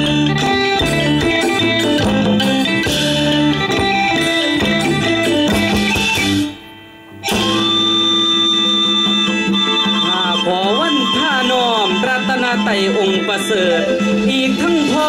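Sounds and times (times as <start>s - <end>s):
bass line: 0.0s - 15.0s
plucked string instrument: 0.0s - 15.0s.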